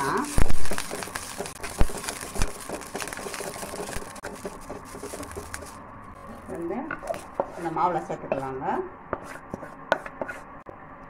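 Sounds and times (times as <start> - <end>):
wooden spatula scraping pan: 0.0 - 5.8, 6.4 - 10.5
leaves sauteing in fat: 0.0 - 10.5.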